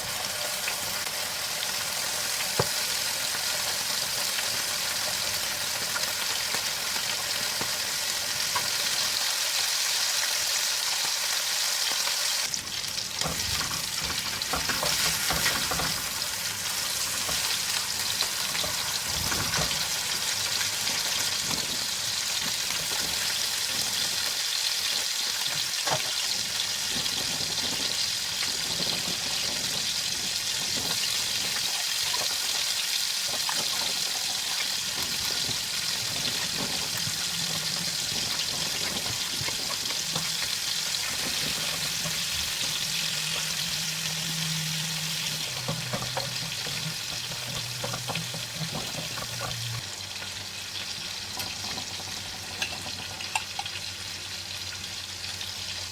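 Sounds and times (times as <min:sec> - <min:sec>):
food sizzling in oil: 0:00.0 - 0:55.9.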